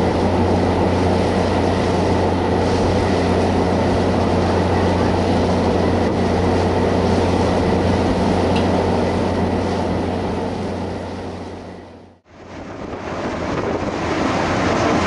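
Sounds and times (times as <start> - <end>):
ferry engine droning: 0.0 - 15.0
rush of boat wake: 0.0 - 15.0
wind: 0.0 - 15.0.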